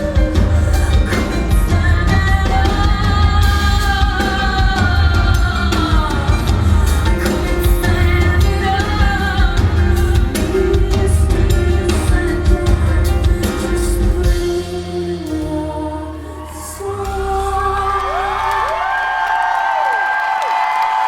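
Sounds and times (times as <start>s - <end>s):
woman singing: 0.0s - 19.3s
rock band with drums and bass: 0.0s - 21.0s.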